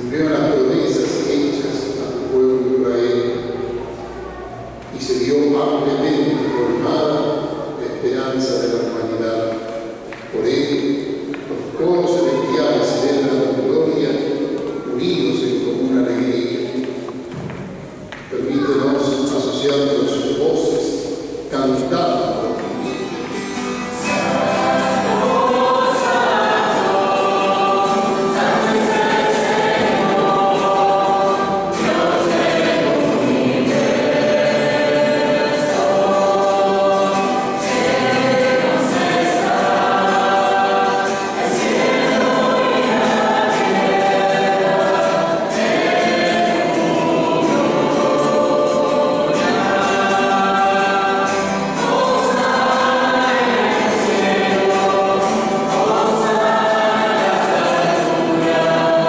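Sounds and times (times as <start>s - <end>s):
choir singing a hymn: 0.0s - 4.2s, 4.8s - 59.0s
acoustic guitar: 0.0s - 59.0s.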